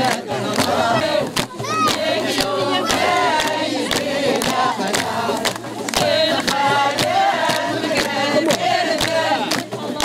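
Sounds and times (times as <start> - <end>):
crowd singing in chorus: 0.0 - 10.0
frame drums beating: 0.0 - 10.0
hand clapping: 0.0 - 10.0.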